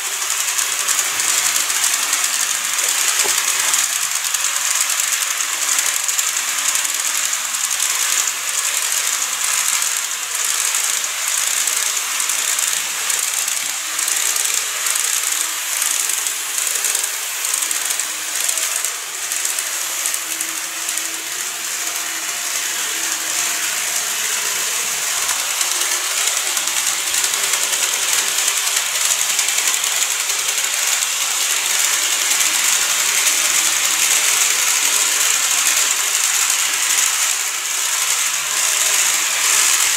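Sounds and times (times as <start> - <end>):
model trains rattling on track: 0.0 - 39.9.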